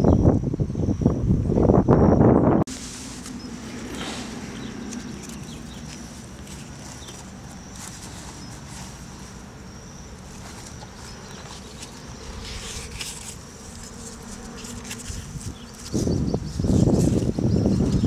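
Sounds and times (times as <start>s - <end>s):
insect buzzing: 0.0s - 18.0s
loud close-up low noise: 0.0s - 18.0s.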